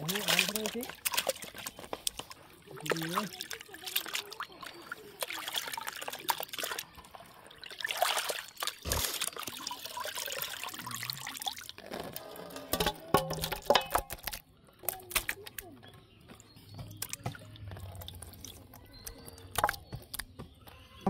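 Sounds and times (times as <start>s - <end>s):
water sloshing in a bucket: 0.0s - 20.4s
water dripping: 0.0s - 20.5s.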